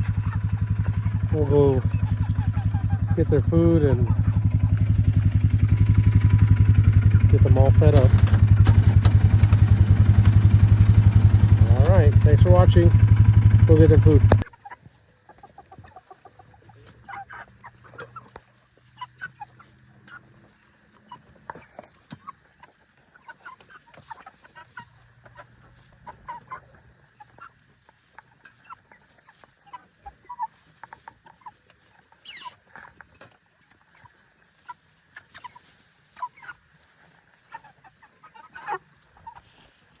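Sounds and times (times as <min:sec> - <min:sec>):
chickens clucking and peeping: 0:00.0 - 0:40.0
drawn-out chicken calls: 0:00.0 - 0:40.0.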